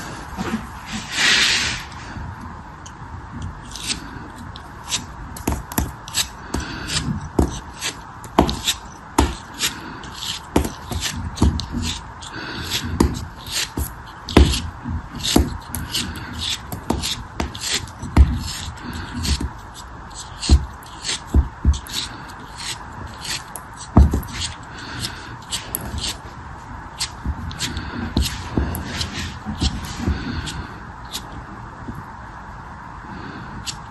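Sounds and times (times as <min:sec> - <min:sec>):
soft rustle: 0:00.0 - 0:02.6, 0:03.3 - 0:32.1.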